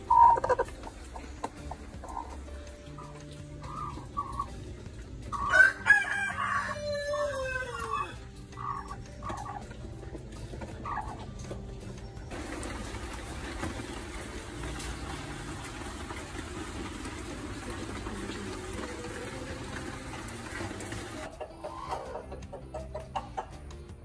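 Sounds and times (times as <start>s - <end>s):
hen clucking: 0.0s - 23.7s.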